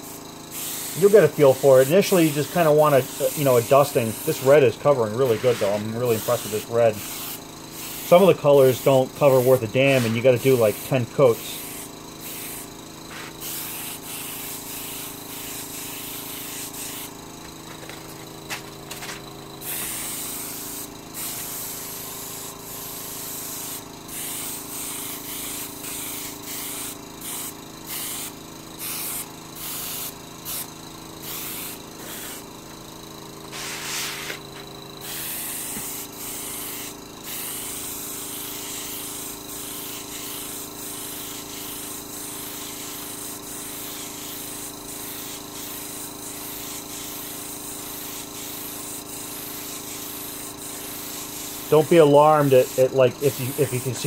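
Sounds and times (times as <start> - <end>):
airbrush spraying hiss: 0.0 - 18.9, 19.6 - 54.0
steady low hum: 0.0 - 46.5.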